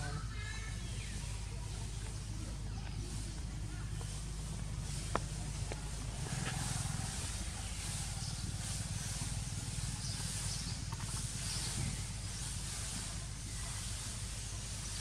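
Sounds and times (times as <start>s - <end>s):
constant high hiss: 0.0s - 15.0s
steady low hum: 0.0s - 15.0s.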